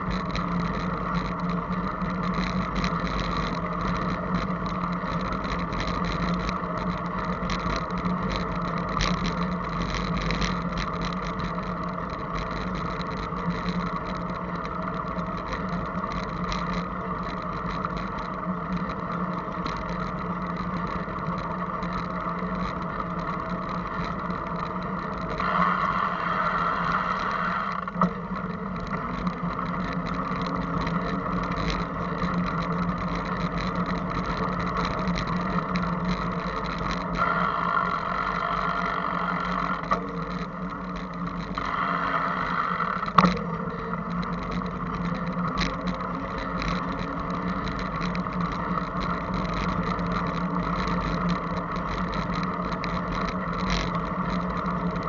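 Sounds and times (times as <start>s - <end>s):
constant rattling: 0.0s - 55.0s
faint steady hum: 0.0s - 55.0s
steady rumbling: 0.0s - 55.0s.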